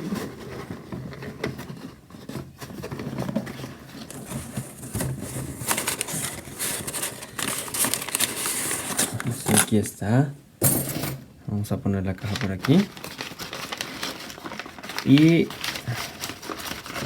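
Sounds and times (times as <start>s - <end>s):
packaging rustling and tearing: 0.0s - 10.0s, 12.2s - 17.0s.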